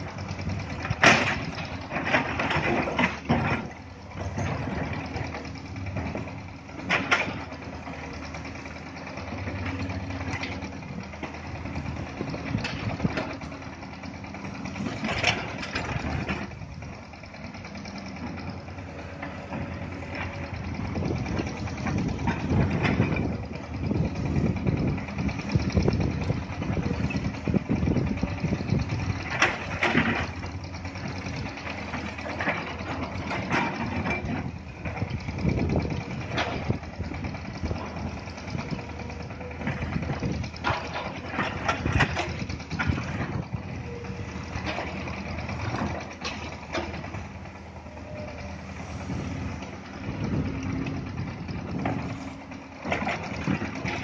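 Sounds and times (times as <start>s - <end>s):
excavator diesel engines: 0.0s - 54.0s.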